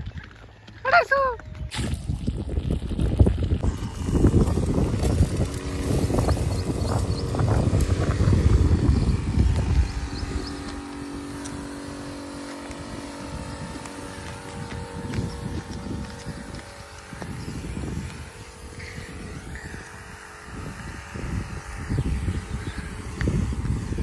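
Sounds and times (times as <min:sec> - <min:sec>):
wind rumble on microphone: 0:01.4 - 0:24.0
electric pump humming: 0:01.5 - 0:24.0.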